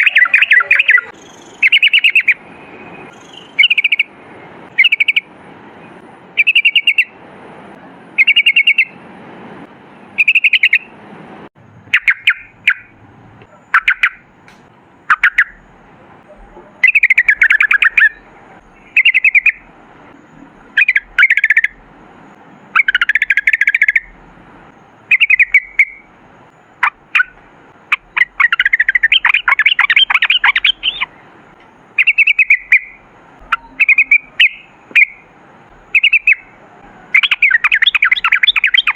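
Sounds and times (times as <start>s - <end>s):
bulbul singing: 0.0s - 5.3s, 6.3s - 7.2s, 8.2s - 9.0s, 10.2s - 10.9s, 11.6s - 38.9s.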